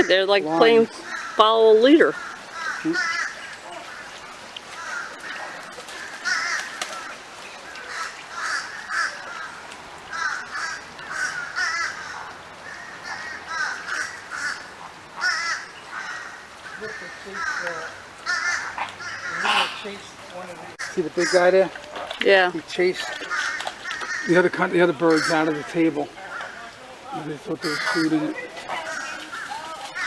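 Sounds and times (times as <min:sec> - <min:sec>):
flamingos honking: 0:00.0 - 0:30.0.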